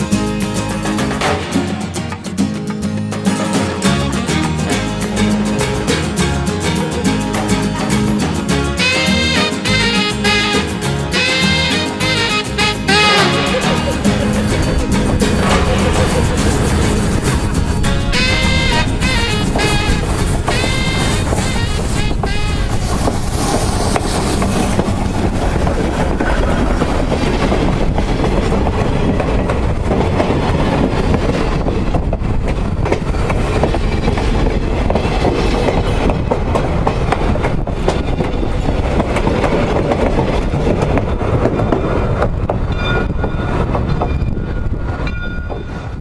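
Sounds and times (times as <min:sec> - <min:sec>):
train rumbling past: 0:00.0 - 0:46.0
wheels clicking over rail joints: 0:00.0 - 0:46.0.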